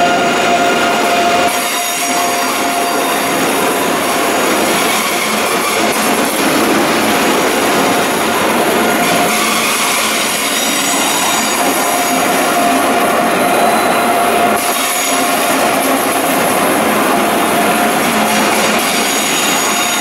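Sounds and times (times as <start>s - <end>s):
high wheel squealing: 0.0s - 20.0s
train rolling on rails: 0.0s - 20.0s.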